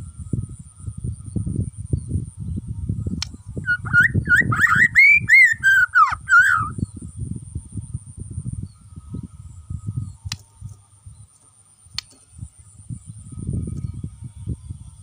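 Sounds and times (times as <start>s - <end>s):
bird singing gliding whistles: 0.0s - 7.3s, 8.5s - 15.0s.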